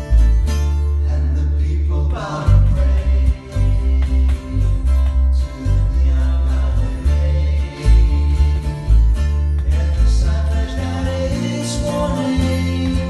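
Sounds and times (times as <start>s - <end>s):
acoustic guitar: 0.0s - 13.0s
bass line: 0.0s - 13.0s
person singing: 1.0s - 9.0s, 9.6s - 13.0s.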